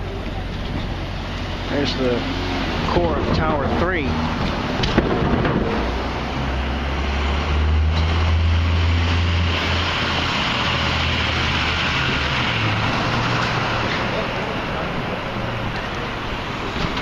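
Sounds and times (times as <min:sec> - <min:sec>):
passing vehicle rumble: 0:00.0 - 0:17.0
street traffic rush: 0:00.0 - 0:17.0.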